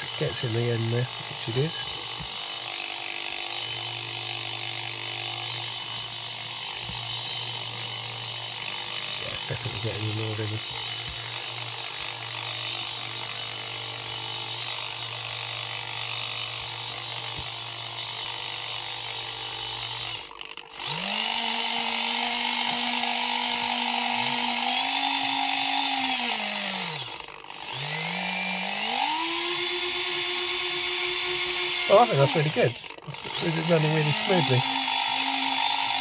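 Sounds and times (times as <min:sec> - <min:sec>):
electric motor whirring: 0:00.0 - 0:36.0.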